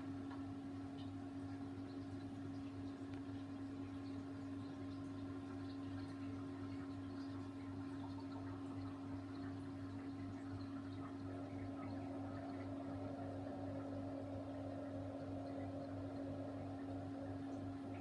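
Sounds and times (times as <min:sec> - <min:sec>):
refrigerator humming: 0:00.0 - 0:18.0.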